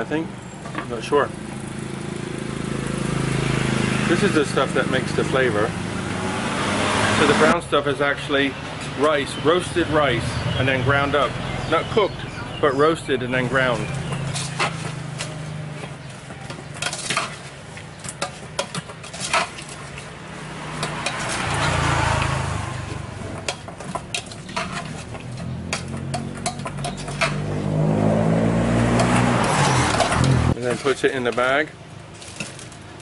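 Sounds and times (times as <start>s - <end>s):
engine: 0.0s - 12.2s, 13.0s - 33.0s
motor vehicle passing: 1.2s - 31.2s.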